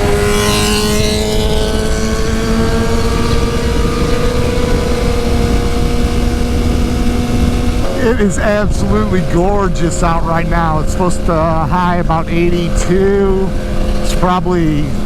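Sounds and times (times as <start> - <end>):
motorcycle engine running: 0.0 - 15.0
wind and road rumble: 0.0 - 15.0.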